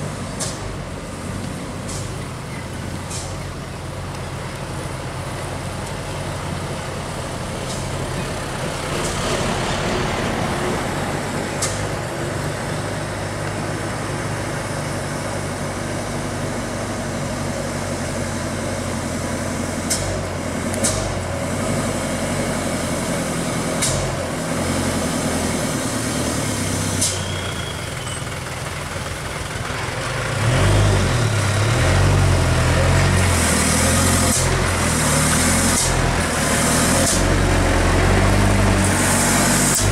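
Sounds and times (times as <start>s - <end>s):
large vehicle engine running: 0.0s - 39.9s.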